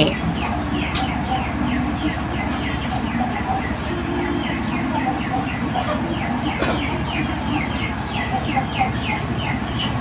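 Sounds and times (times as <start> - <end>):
birds chirping: 0.0 - 10.0
steady low rumble: 0.0 - 10.0.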